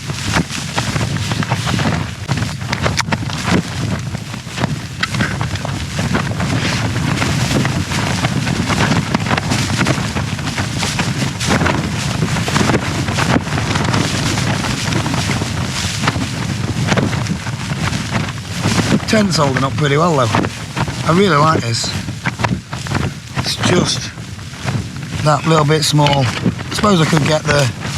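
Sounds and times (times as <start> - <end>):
tent fabric flapping: 0.0 - 27.9
wind rumble on microphone: 0.0 - 27.9.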